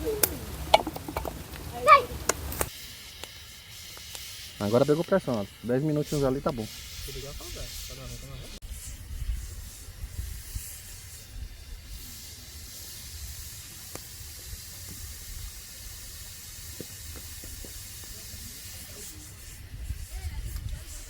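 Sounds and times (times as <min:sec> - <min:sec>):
pressure cooker hissing: 0:00.0 - 0:21.0.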